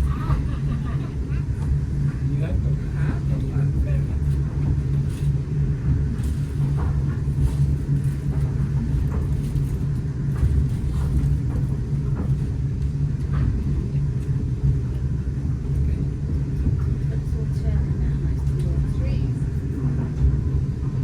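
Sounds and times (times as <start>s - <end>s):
train rumbling from aboard: 0.0s - 21.0s.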